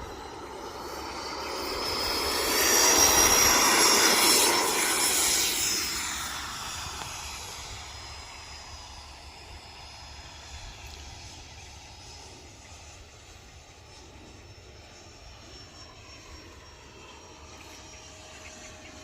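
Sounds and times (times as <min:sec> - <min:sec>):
model jet fans whining: 0:00.0 - 0:19.0.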